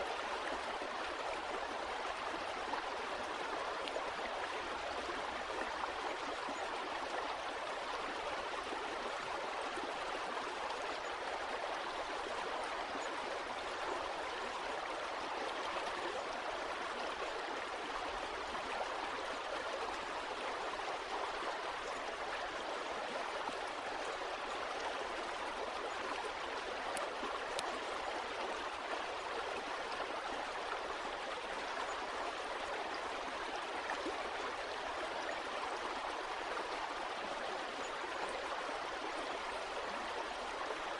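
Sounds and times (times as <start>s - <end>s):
stream water gurgling: 0.0s - 40.9s.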